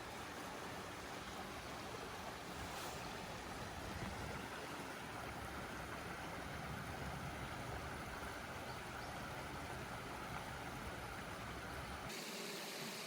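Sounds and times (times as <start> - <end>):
stream flowing over rocks: 0.0 - 12.1.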